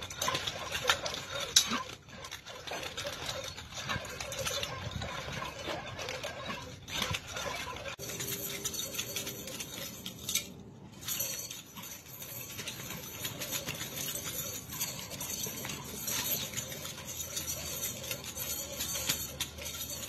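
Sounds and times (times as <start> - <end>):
nunchuck chain clinking: 0.0 - 20.0.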